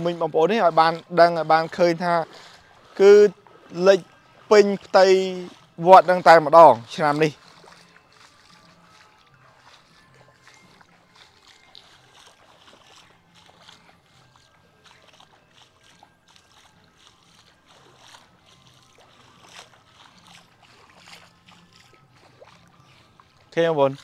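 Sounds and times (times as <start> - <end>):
water splashing and lapping: 0.0 - 24.0.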